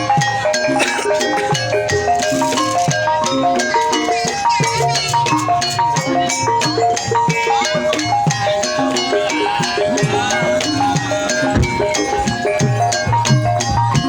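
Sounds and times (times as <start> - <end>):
drums: 0.0 - 14.0
gamelan ensemble music: 0.0 - 14.0
rattling percussion: 0.0 - 14.0
struck metal notes melody: 0.0 - 14.0.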